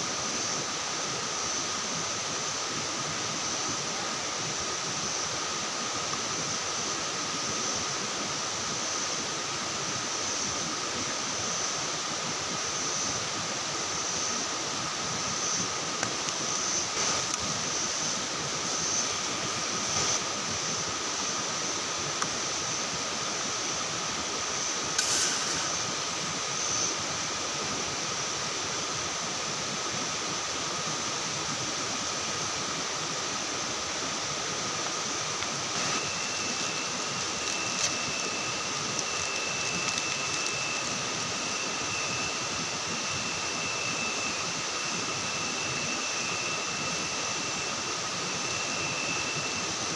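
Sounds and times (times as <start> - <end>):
steady hiss: 0.0 - 49.9
high-pitched insect tones: 3.1 - 49.9.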